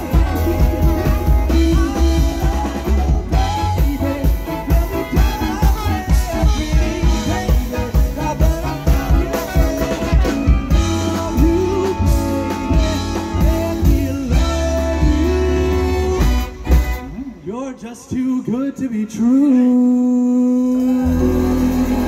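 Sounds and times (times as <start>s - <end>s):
swing band playing: 0.0s - 17.7s, 20.7s - 22.0s
man singing: 0.0s - 22.0s.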